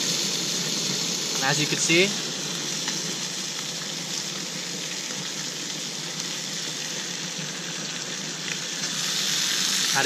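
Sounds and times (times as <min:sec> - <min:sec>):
fish sizzling in a pan: 0:00.0 - 0:10.0.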